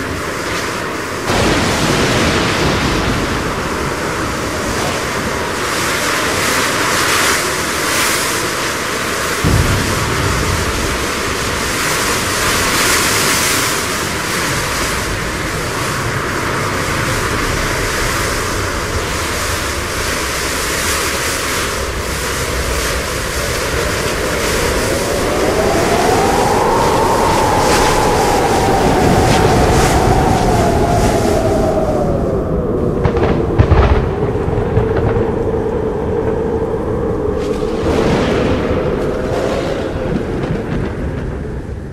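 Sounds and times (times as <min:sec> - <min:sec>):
howling wind gust: 0:00.0 - 0:41.9
surf rushing: 0:00.0 - 0:41.9.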